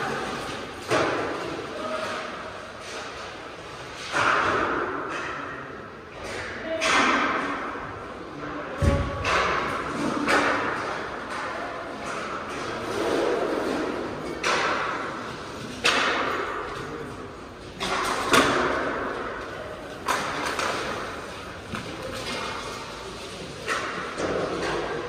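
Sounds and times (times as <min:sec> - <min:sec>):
hockey sticks and puck clacking: 0:00.0 - 0:08.1, 0:08.8 - 0:25.0.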